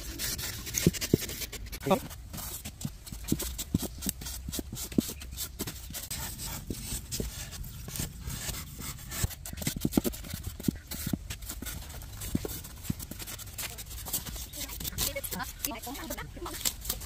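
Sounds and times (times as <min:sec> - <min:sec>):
blade scraping foam: 0:00.0 - 0:17.0.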